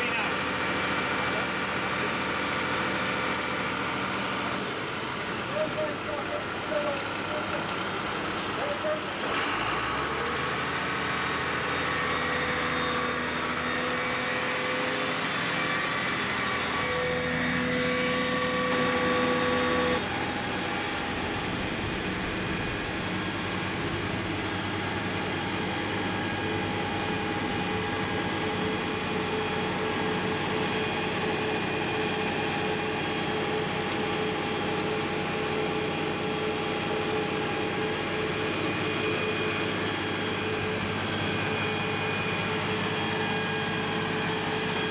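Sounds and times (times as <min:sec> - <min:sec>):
fire engine motor droning: 0:00.0 - 0:44.9.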